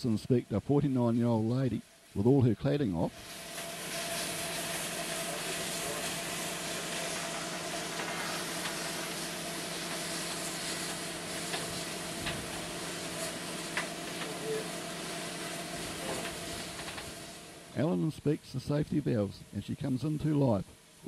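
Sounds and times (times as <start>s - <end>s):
steam hissing from boiler: 0.0s - 21.0s.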